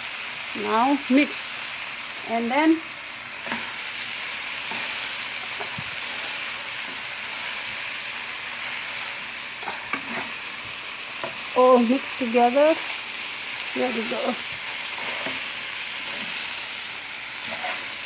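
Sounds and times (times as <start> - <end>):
food sizzling in a hot pan: 0.0 - 18.0.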